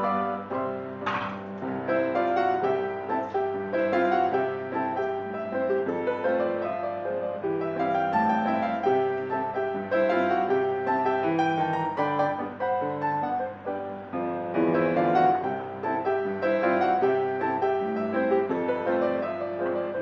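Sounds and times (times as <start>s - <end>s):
lively piano music: 0.0s - 20.0s.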